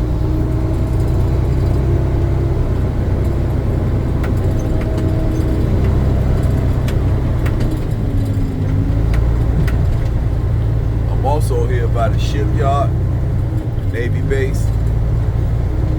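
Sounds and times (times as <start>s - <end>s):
diesel engine humming: 0.0s - 15.9s.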